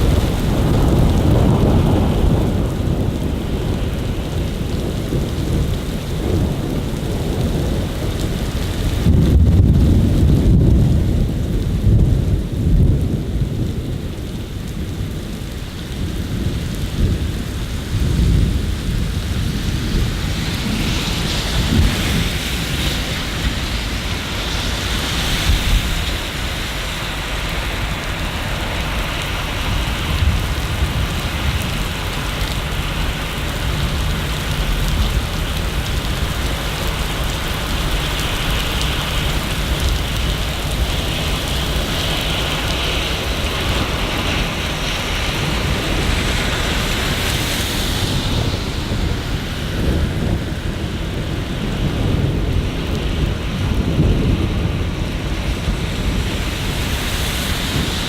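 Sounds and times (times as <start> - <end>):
steady rain: 0.0 - 58.0
thunder rumbling: 0.0 - 58.0.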